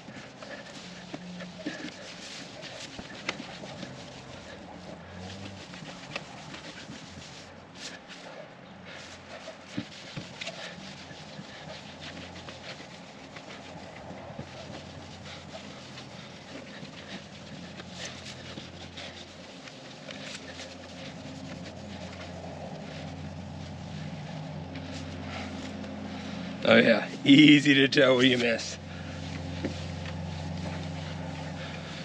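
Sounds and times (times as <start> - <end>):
rag rubbing on metal: 0.0 - 32.0.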